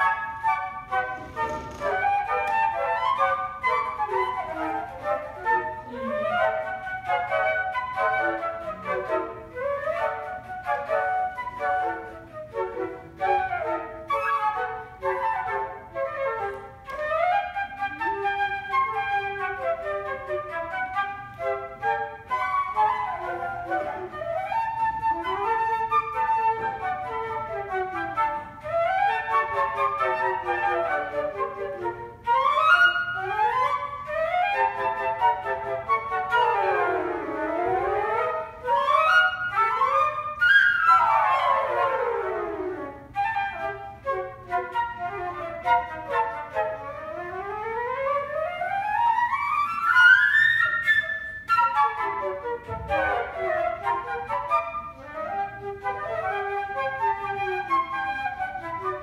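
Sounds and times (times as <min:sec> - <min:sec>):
flute quartet playing: 0:00.0 - 0:59.0.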